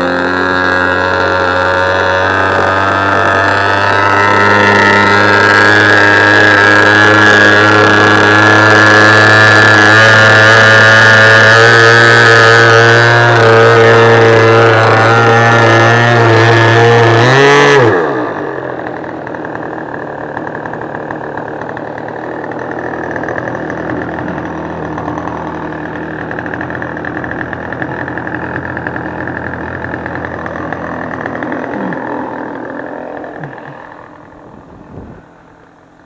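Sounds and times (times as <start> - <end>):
model plane engine buzzing: 0.0 - 36.0.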